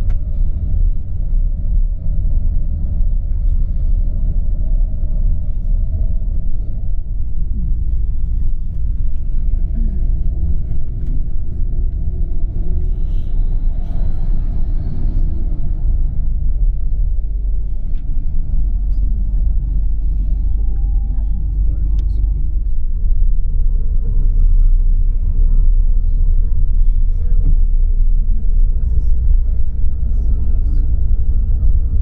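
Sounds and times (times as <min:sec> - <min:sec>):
coach engine rumble: 0:00.0 - 0:32.0.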